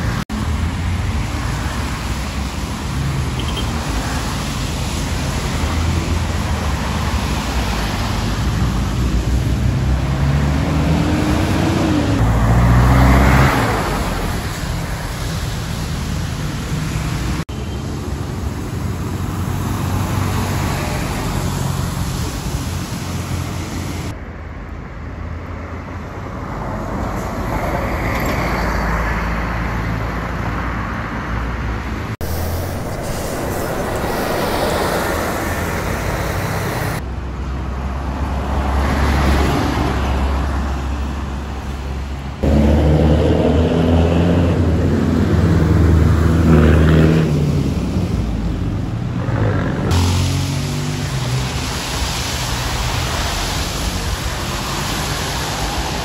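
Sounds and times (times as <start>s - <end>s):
bus engines running: 0.0s - 56.0s
tyre and traffic noise: 0.0s - 56.0s.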